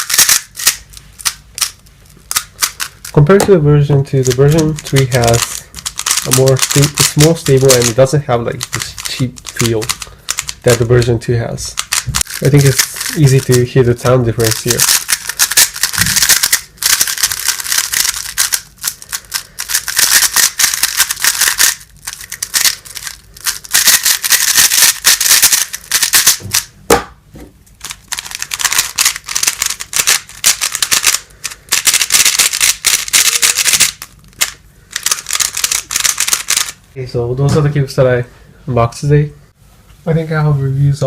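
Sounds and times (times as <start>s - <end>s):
plastic puzzle cube clacking: 0.0s - 26.7s, 27.8s - 36.8s.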